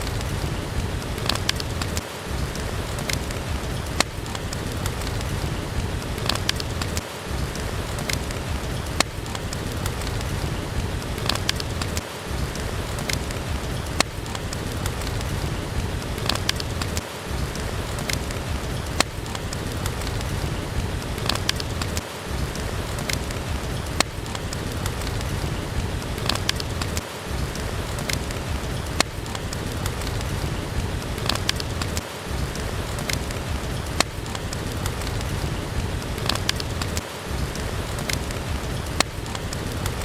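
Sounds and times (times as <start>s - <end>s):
heavy rain: 0.0s - 40.0s
wood fire crackling: 0.0s - 40.0s.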